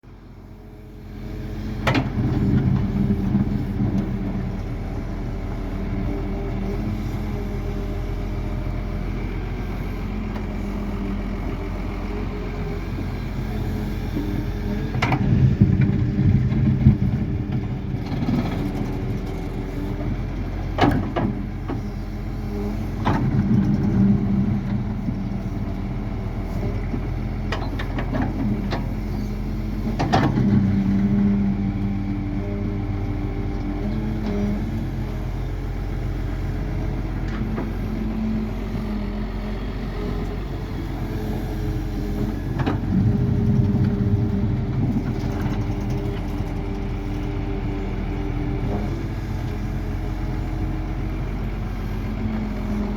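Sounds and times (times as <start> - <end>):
excavator diesel engine running: 0.1 - 52.9.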